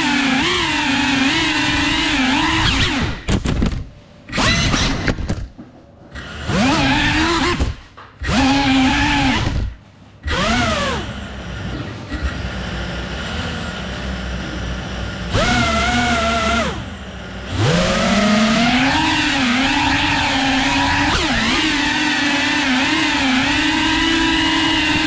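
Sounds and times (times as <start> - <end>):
drone motors whining: 0.0 - 3.4, 6.1 - 25.0.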